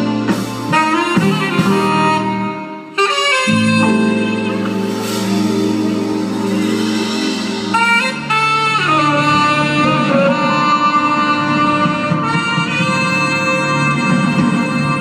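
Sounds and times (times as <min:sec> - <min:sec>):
bass and band accompaniment: 0:00.0 - 0:15.0
tenor saxophone long notes: 0:00.0 - 0:15.0.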